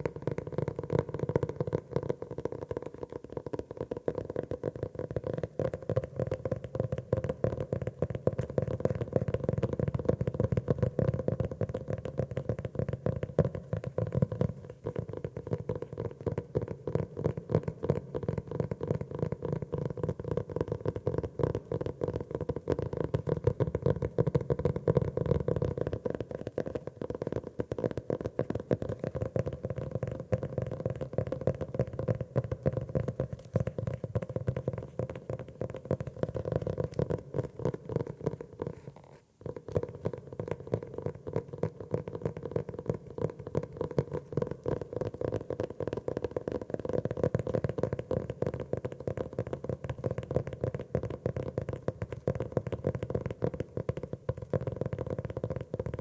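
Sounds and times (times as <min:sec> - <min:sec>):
fast tapping on a notebook: 0:00.0 - 0:56.0.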